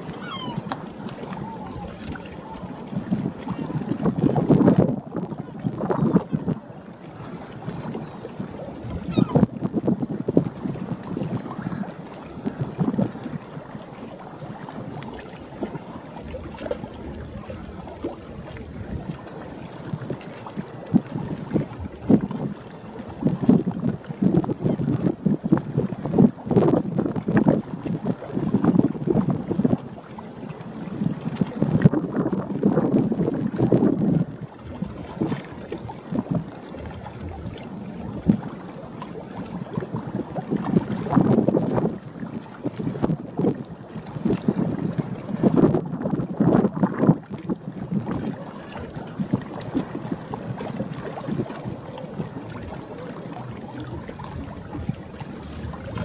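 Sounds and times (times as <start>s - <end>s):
wind buffeting microphone: 0.0s - 30.1s, 30.8s - 56.0s.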